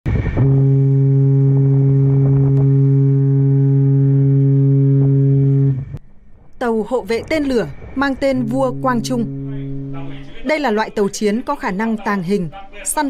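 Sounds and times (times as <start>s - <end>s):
ship's horn blast: 0.1s - 6.0s, 7.0s - 12.5s.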